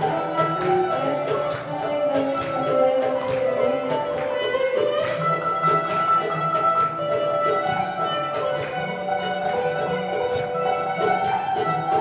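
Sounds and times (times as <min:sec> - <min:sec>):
held bowed string melody: 0:00.0 - 0:12.0
plucked string notes: 0:00.0 - 0:12.0.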